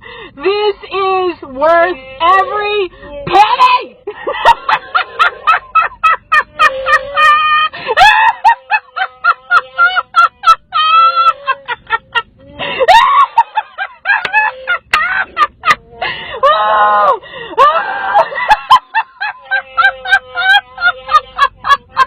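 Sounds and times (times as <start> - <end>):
woman laughing hysterically: 3.3 - 22.0.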